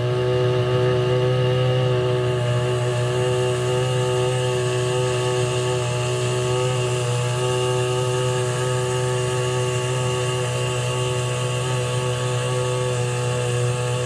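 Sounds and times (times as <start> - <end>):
engine running with low buzz: 0.0 - 14.0.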